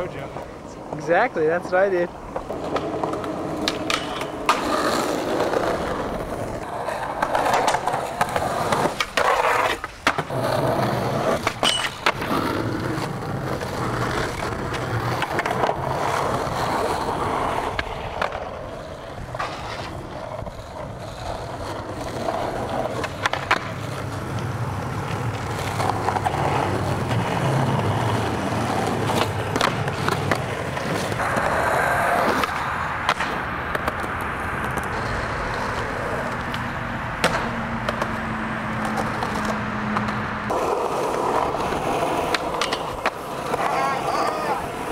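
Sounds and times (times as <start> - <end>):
skateboard clacks: 0.0 - 44.9
skateboard wheels rolling: 0.0 - 44.9.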